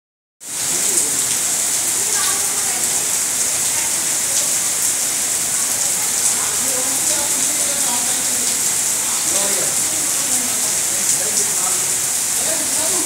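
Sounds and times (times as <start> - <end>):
heavy rain pouring: 0.4 - 13.0.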